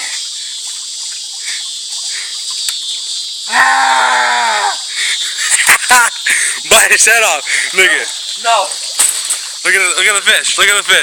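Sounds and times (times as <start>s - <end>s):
high drone of insects: 0.0s - 11.0s.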